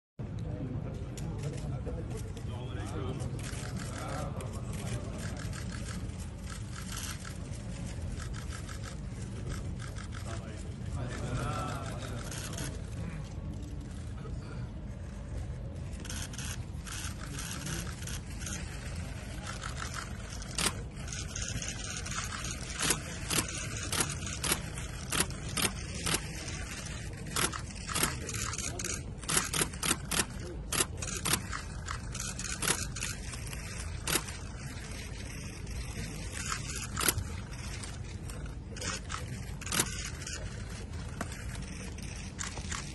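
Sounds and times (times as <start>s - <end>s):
low background noise: 0.2s - 42.9s
camera shutters clicking: 1.2s - 10.7s, 11.8s - 14.1s, 15.0s - 42.9s.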